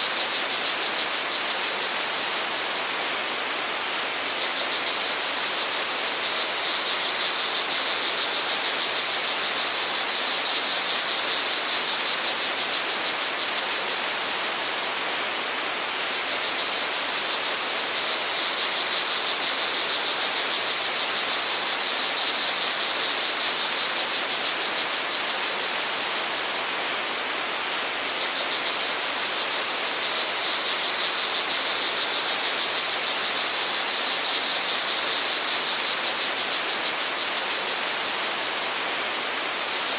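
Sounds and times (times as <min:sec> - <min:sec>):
crickets trilling: 0:00.0 - 0:02.8, 0:04.2 - 0:14.8, 0:15.9 - 0:26.7, 0:27.7 - 0:39.9
rushing water: 0:00.0 - 0:39.9.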